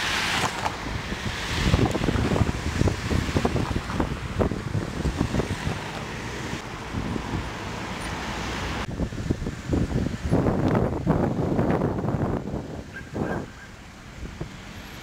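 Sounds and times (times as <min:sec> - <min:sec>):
slow road traffic: 0:00.0 - 0:15.0
wind buffeting microphone: 0:00.5 - 0:07.8, 0:08.8 - 0:15.0.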